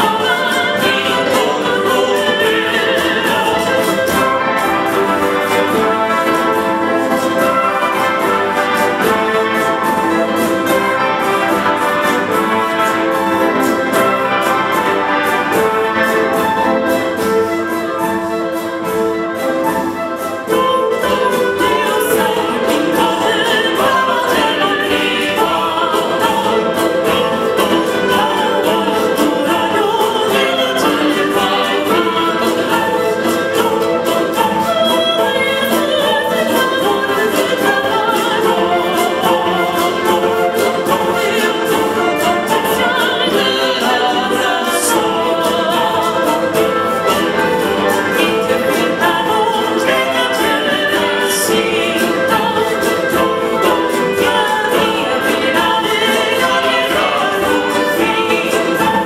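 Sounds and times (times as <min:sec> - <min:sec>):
choir singing: 0:00.0 - 0:59.0
wind band playing: 0:00.0 - 0:59.0.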